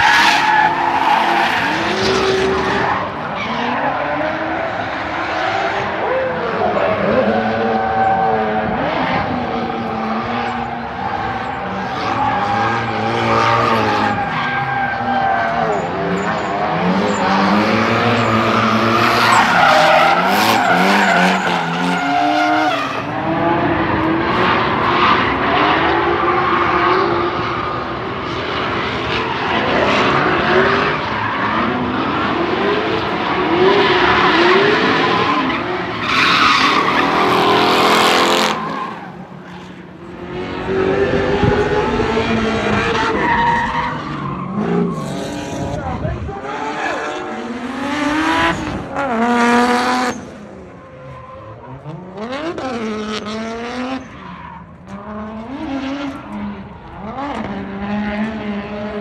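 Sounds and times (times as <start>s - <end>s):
car engines revving hard: 0.0s - 59.0s.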